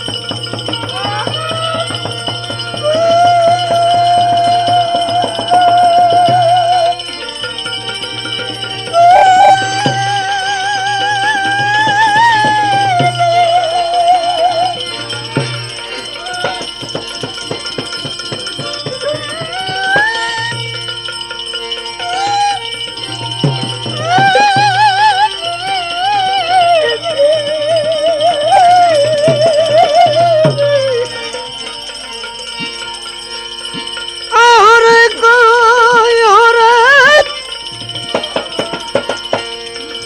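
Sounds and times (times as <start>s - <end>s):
hand drum strokes: 0.0s - 37.2s
jingling percussion: 0.0s - 40.0s
wavering melody line: 0.0s - 40.0s.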